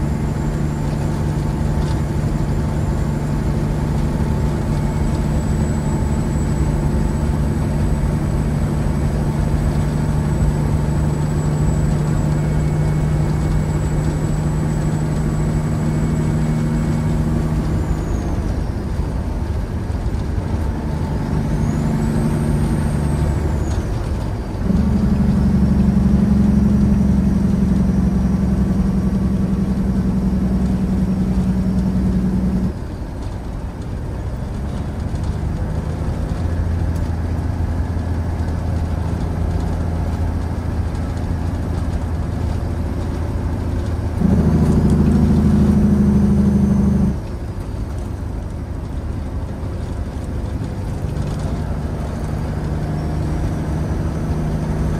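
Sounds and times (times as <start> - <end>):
truck diesel engine droning: 0.0 - 54.9.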